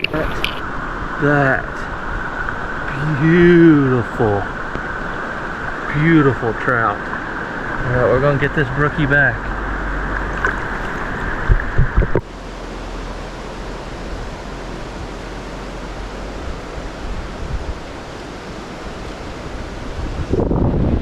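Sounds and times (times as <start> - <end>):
stream water rushing: 0.0 - 20.6.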